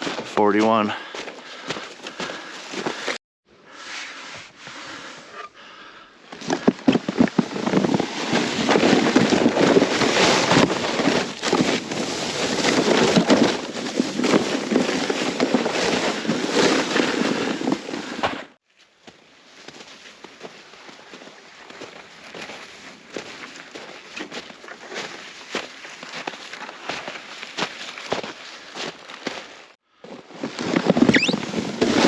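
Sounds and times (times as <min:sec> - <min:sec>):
plastic sled scraping over snow: 0:00.0 - 0:00.9, 0:01.5 - 0:03.2, 0:06.3 - 0:18.6, 0:19.5 - 0:32.0.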